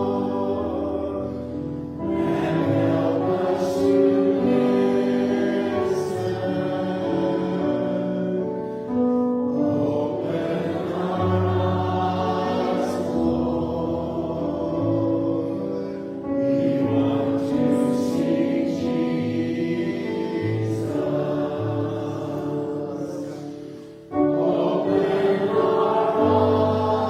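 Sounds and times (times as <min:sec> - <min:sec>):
voices singing a hymn: 0:00.0 - 0:27.0.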